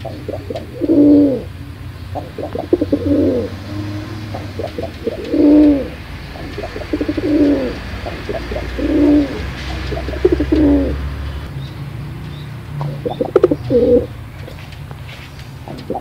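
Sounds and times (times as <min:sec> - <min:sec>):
pigeon cooing: 0:00.0 - 0:11.4, 0:12.8 - 0:14.6, 0:15.6 - 0:16.0.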